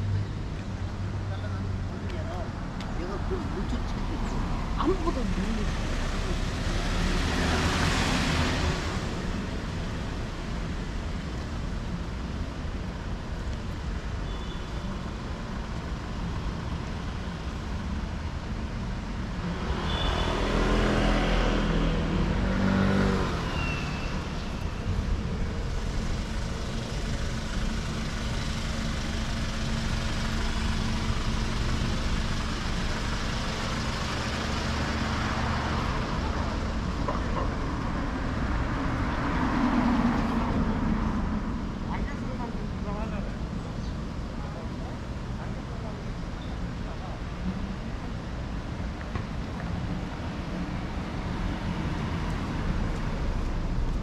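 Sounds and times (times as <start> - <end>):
city traffic hum: 0.0 - 54.0.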